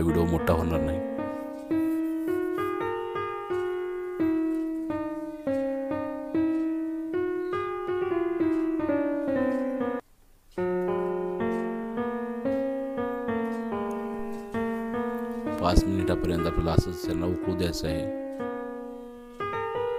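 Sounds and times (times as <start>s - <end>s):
piano melody: 0.0s - 19.9s.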